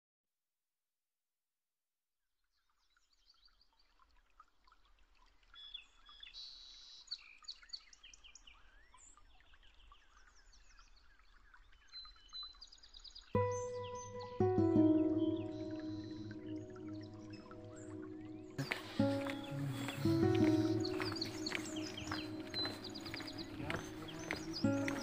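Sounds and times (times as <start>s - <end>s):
small birds chirping and twittering: 2.8s - 25.0s.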